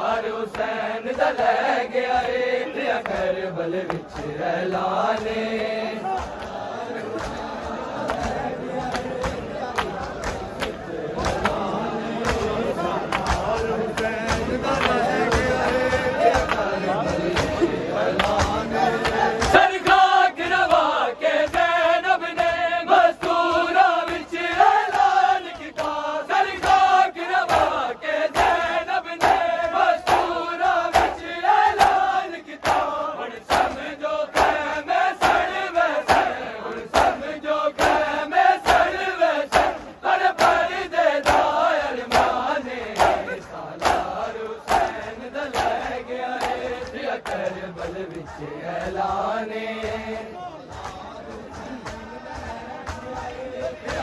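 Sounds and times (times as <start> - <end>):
crowd of men chanting: 0.0 - 54.0
hands slapping chests: 3.0 - 4.4, 5.0 - 54.0.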